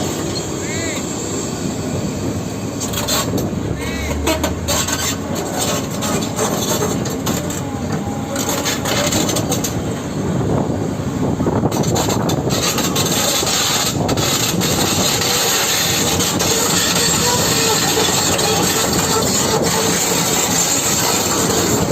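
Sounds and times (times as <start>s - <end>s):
excavator tracks clattering: 2.7s - 10.2s, 11.5s - 21.9s.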